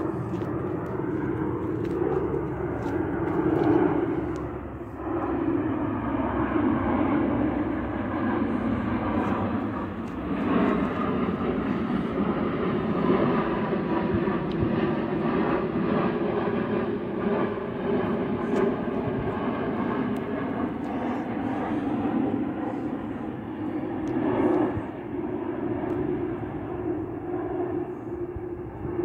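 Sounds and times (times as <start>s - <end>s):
jet airliner flying overhead: 0.0s - 29.0s.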